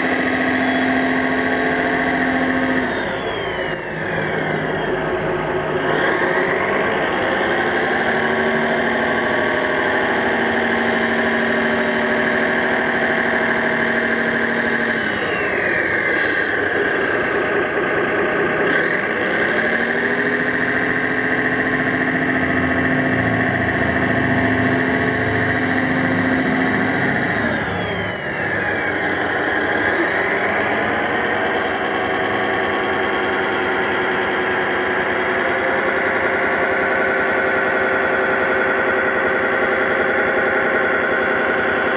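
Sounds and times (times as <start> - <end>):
toy tractor motor running: 0.0 - 41.9.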